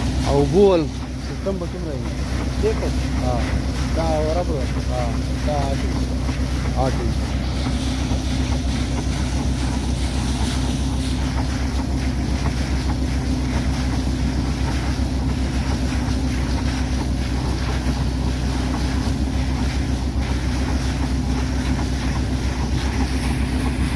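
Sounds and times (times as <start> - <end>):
drilling rig engine running: 0.0 - 23.9
water gushing and splashing: 0.0 - 23.9.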